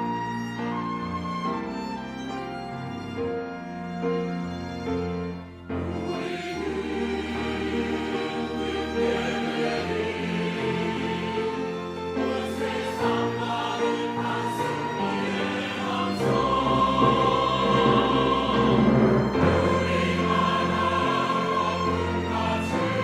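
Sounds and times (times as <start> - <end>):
church choir singing: 0.8 - 23.0.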